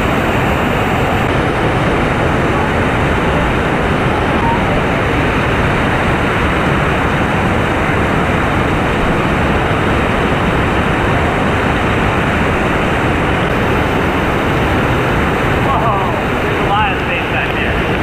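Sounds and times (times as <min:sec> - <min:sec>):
whitewater rushing on river rapid: 0:00.0 - 0:18.0.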